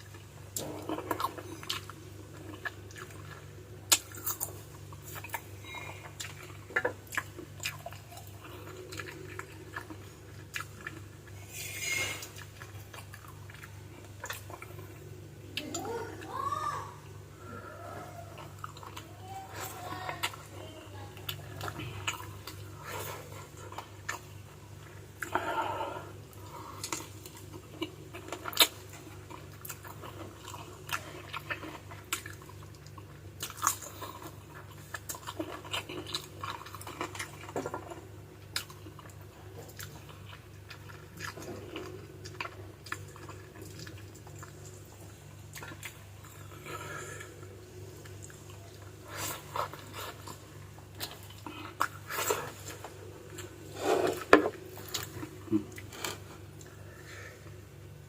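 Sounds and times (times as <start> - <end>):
wet chewing mouth sounds: 0.0 - 15.9, 21.2 - 57.2
steady low hum: 0.0 - 58.0.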